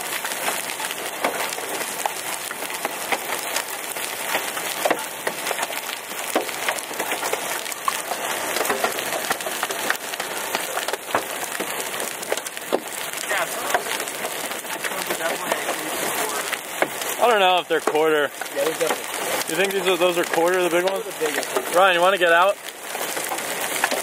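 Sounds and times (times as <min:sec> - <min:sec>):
hailstones hitting car roof and glass: 0:00.0 - 0:24.0.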